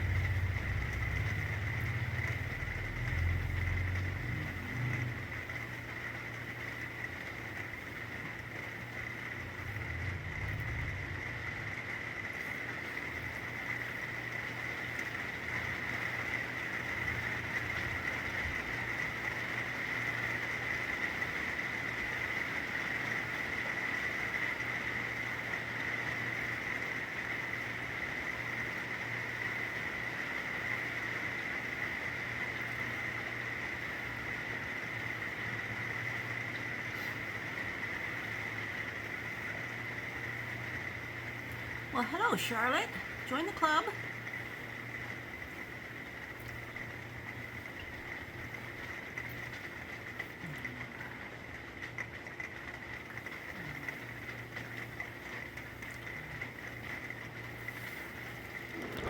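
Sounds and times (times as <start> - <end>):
low steady hum: 0.0 - 59.0
steady rain falling: 0.0 - 59.0.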